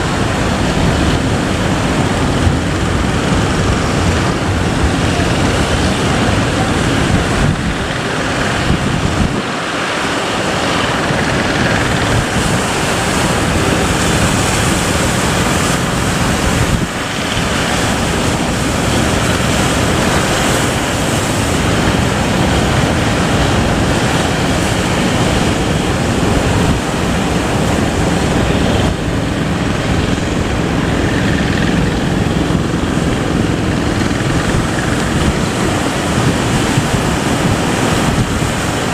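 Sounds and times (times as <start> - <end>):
heavy surf breaking: 0.0 - 38.9
wind buffeting microphone: 0.0 - 38.9.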